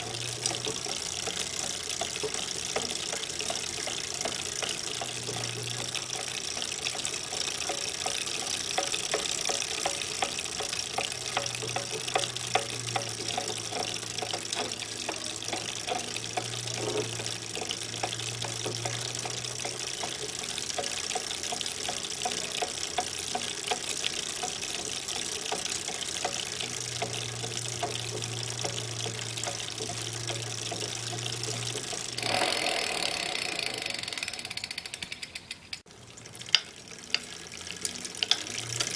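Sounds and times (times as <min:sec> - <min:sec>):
bike drivetrain knocking: 0:00.0 - 0:38.9.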